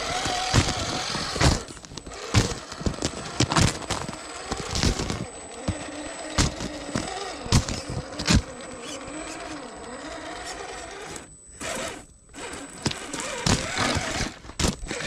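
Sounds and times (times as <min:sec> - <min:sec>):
electric motor and drivetrain whining: 0:00.0 - 0:15.0.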